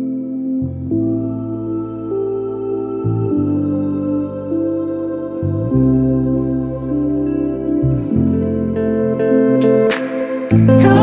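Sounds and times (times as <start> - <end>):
ambient music with held chords: 0.0 - 11.0.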